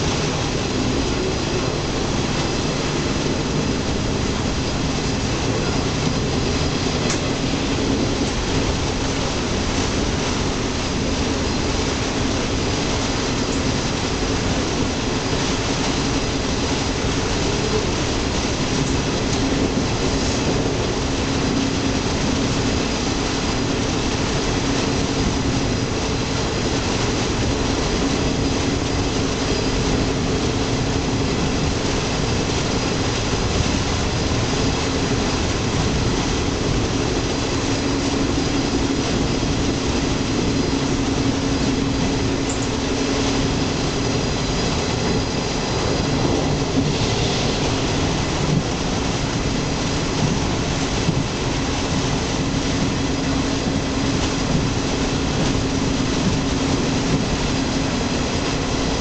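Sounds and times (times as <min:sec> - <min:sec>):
constant hum: 0:00.0 - 0:59.0
train wheels running on rails: 0:00.0 - 0:59.0.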